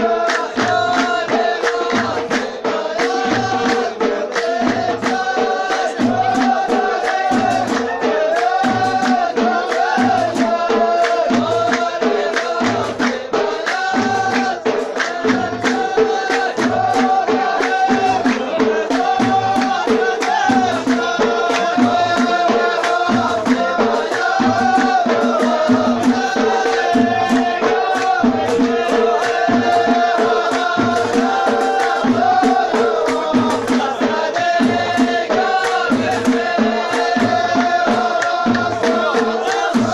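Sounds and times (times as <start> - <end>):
drums keeping steady beat: 0.0 - 39.9.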